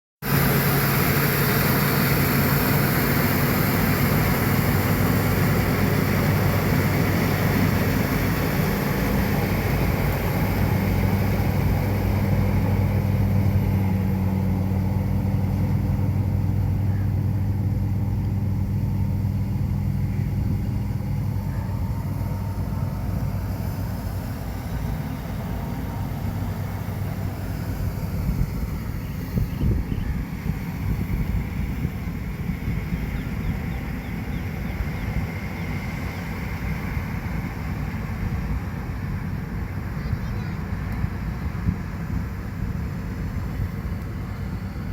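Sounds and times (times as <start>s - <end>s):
combine harvester engine drone: 0.2s - 44.9s.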